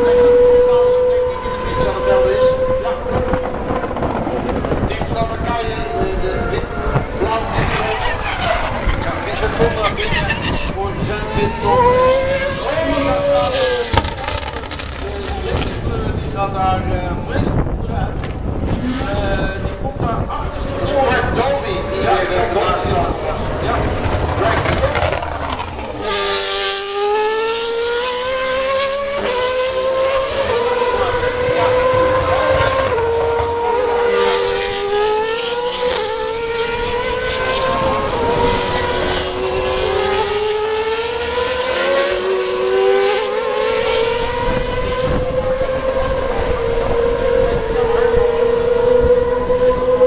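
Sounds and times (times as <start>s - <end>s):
racing car engine revving: 0.0s - 50.0s.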